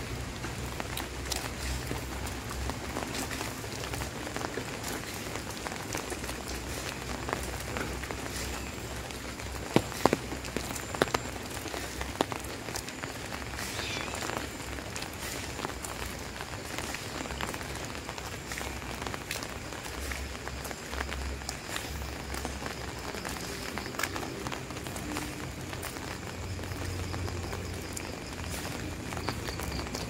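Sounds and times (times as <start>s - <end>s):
rain pattering on surfaces: 0.0s - 30.0s
sharp drips: 0.0s - 30.0s.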